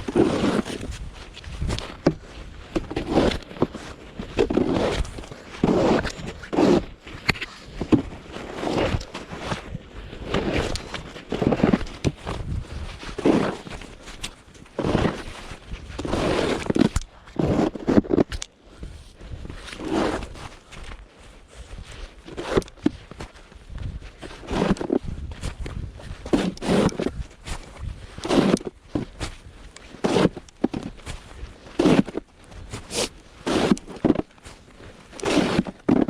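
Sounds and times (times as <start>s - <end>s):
snow crunching: 0.0s - 6.8s, 8.3s - 18.2s, 19.5s - 25.5s, 26.3s - 36.0s.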